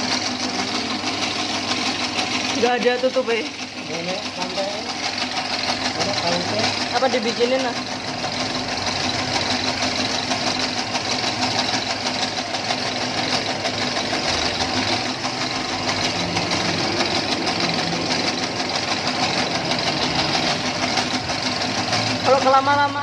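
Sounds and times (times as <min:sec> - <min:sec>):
noodle machine running: 0:00.0 - 0:23.0.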